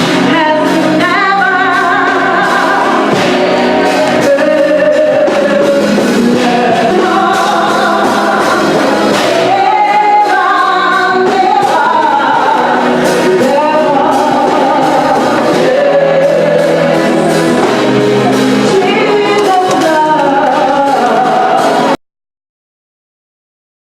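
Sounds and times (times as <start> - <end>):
gospel choir singing: 0.0 - 22.0.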